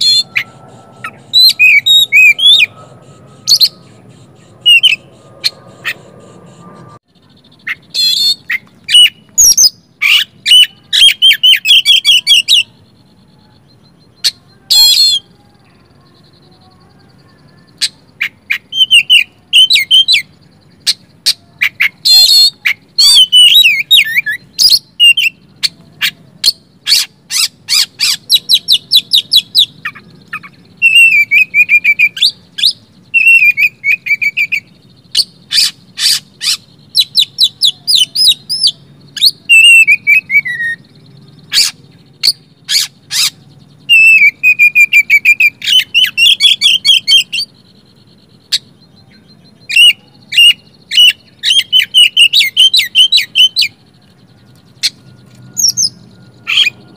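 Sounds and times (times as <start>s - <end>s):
bird singing chirps and trills: 0.0s - 56.9s
low background hum: 0.0s - 56.9s.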